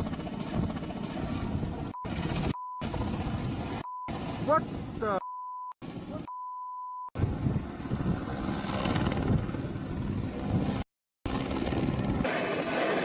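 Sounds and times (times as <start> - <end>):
helicopter crash rushing rumble: 0.0 - 5.0, 7.2 - 13.0.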